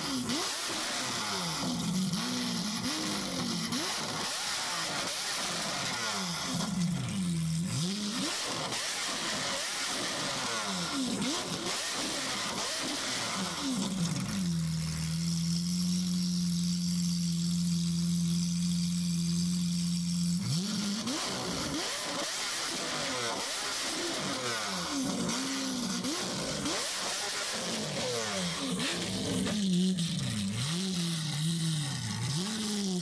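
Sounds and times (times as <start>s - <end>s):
car engine idling: 0.0s - 33.0s
sports car engine revving: 0.0s - 33.0s.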